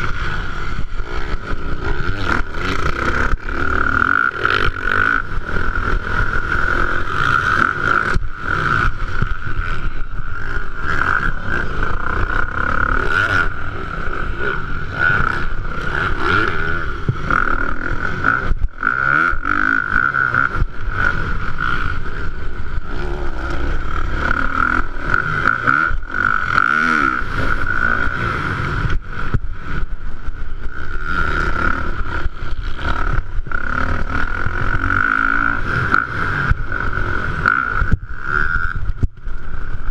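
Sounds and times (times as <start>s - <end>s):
motocross bike engines revving: 0.0s - 39.9s
steady high whine: 0.0s - 39.9s.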